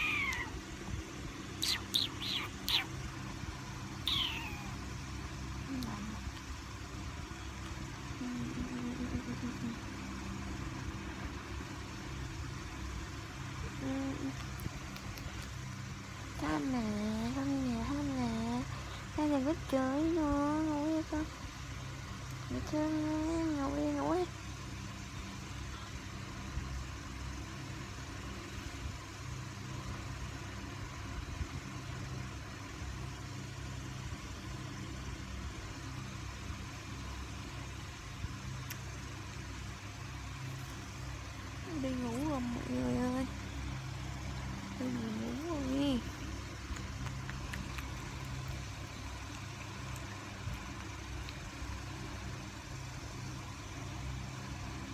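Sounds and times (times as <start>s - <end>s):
constant hiss: 0.0s - 54.9s
low background hum: 0.0s - 54.9s.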